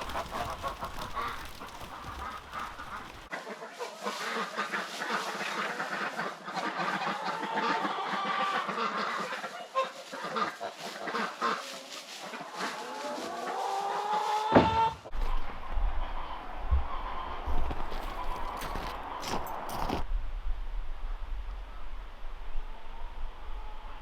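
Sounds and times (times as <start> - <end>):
ducks and geese calling: 0.0 - 19.8.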